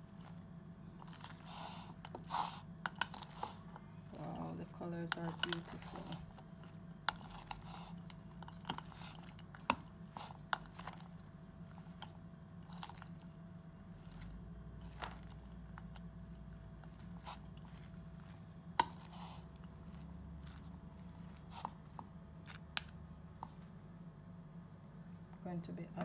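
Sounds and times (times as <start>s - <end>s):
cabbage crunching and rustling: 0.0s - 23.6s.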